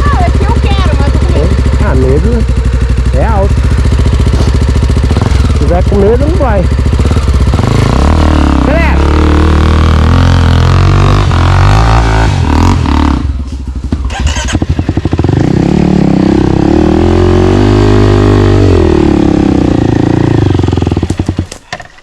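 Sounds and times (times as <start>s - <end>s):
motorcycle engine revving: 0.0s - 21.7s.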